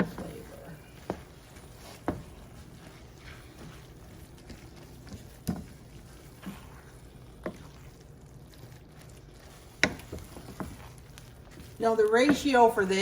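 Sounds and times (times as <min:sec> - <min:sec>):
spoon stirring lentils: 0:00.0 - 0:13.0.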